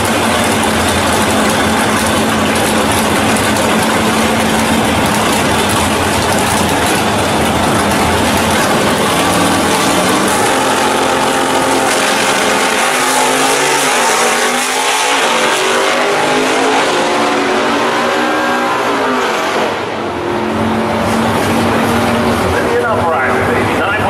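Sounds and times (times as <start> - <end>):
drag cars accelerating full throttle: 0.0 - 24.0.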